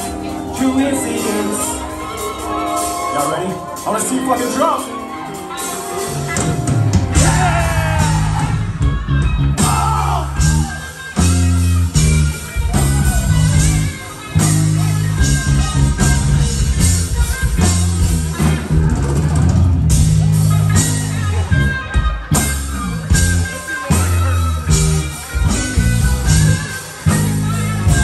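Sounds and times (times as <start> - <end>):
rock band playing heavy riff: 0.0 - 28.0
voice over rock music: 0.0 - 28.0.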